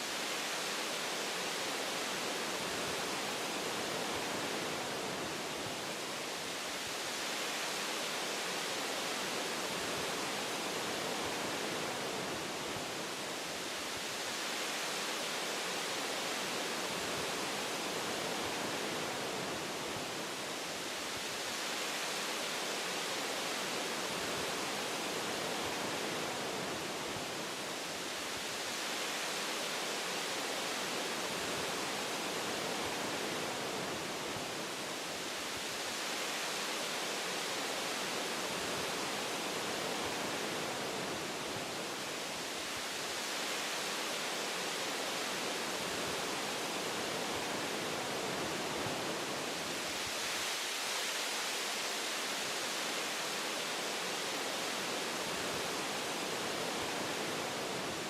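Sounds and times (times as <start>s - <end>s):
wind through tree branches: 0.0s - 58.0s.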